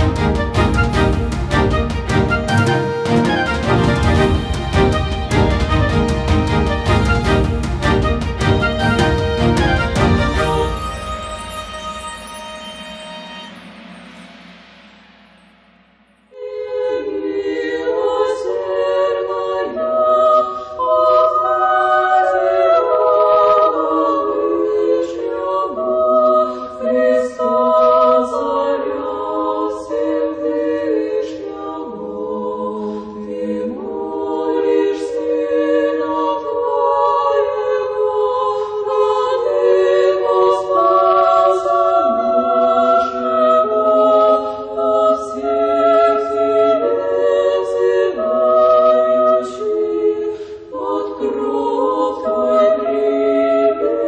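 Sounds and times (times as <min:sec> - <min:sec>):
a cappella choir singing: 0:00.0 - 0:15.2, 0:16.3 - 0:54.0.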